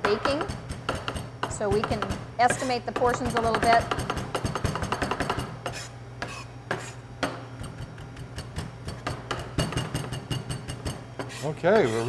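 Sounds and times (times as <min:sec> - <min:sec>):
knife chopping on cutting board: 0:00.0 - 0:12.0
steady low hum: 0:00.0 - 0:12.0.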